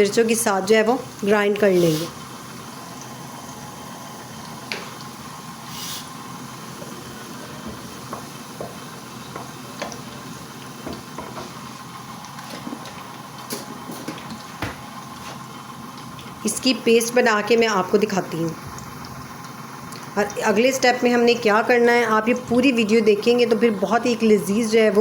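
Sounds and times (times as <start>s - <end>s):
oil sizzling in a pan: 0.0s - 21.7s.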